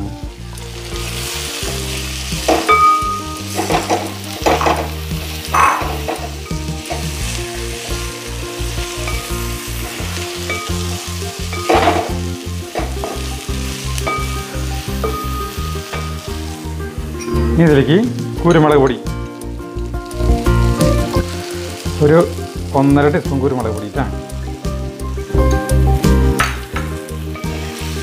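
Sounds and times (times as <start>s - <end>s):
pork sizzling in hot oil: 0.0s - 28.0s.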